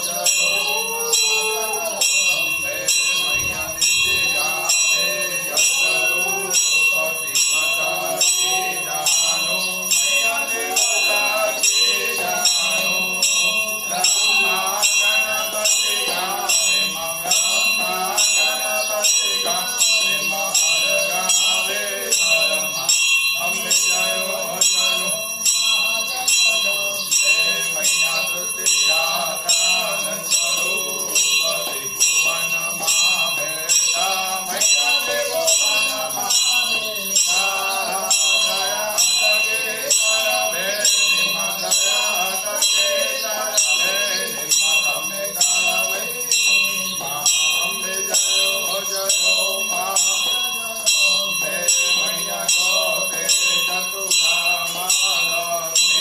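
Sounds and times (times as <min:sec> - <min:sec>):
temple bells ringing: 0:00.0 - 0:56.0.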